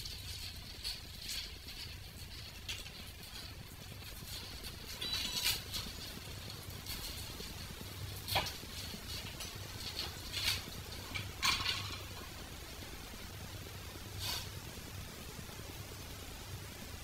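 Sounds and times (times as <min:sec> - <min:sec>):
small parts rustling and scraping: 0:00.0 - 0:15.0
low steady hum: 0:00.0 - 0:17.0.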